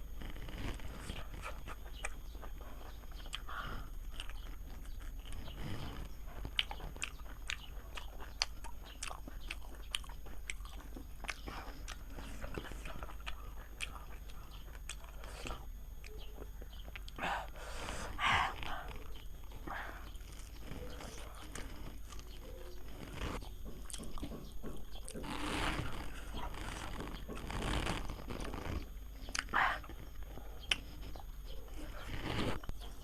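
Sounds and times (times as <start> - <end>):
person chewing and crunching: 0.0 - 33.0.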